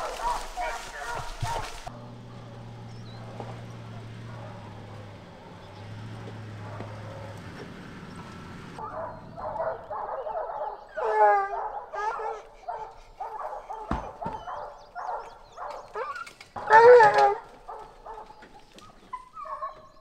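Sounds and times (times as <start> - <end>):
hounds barking: 0.0 - 20.0.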